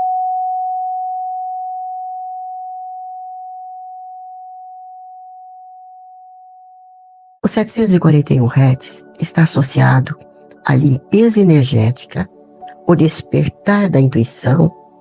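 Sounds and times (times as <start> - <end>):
pure tone: 0.0 - 15.0.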